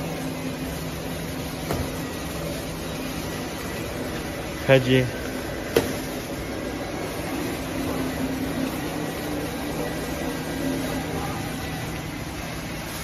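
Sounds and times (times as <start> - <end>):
wrapping machine humming: 0.0 - 13.0.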